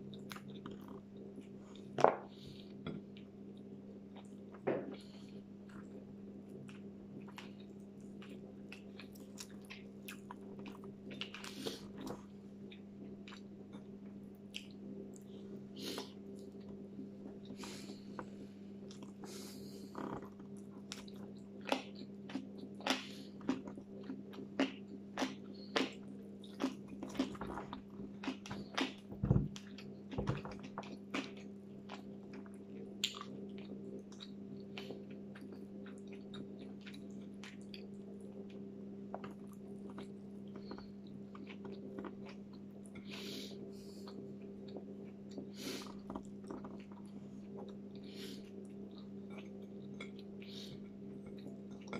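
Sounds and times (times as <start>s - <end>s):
person chewing food: 0.0s - 51.9s
steady low hum: 0.0s - 51.9s.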